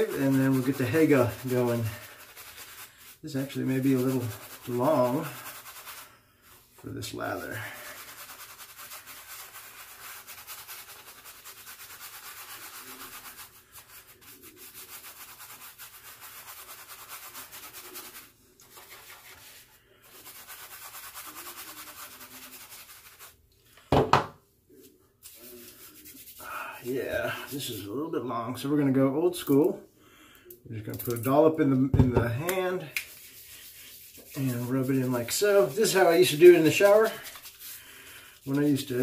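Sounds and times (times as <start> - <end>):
shaving brush whisking lather: 0.0 - 23.8, 24.7 - 27.9, 32.2 - 39.0.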